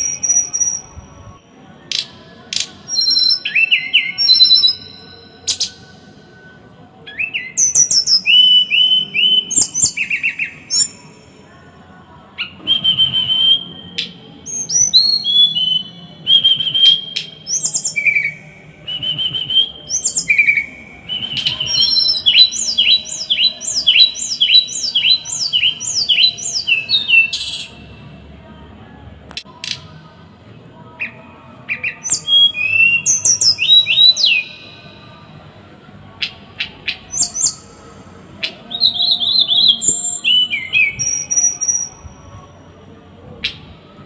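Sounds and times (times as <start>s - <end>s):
songbird singing whistled notes: 0.0s - 6.4s, 7.0s - 11.4s, 12.4s - 27.9s, 31.0s - 34.9s, 36.2s - 42.4s.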